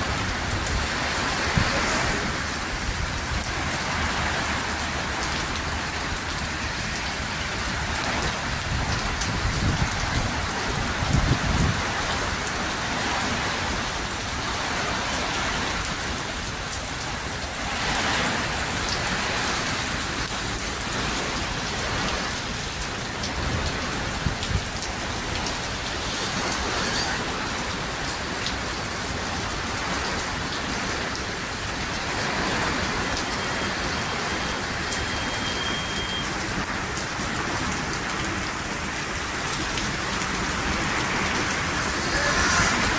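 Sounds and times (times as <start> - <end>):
strong wind: 0.0 - 5.8, 6.6 - 33.1, 38.8 - 42.9
heavy rain: 0.0 - 42.9.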